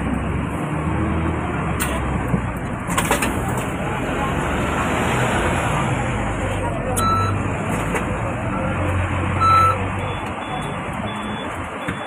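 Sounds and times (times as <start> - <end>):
boarding crowd: 0.0 - 12.0
street traffic: 0.0 - 12.0.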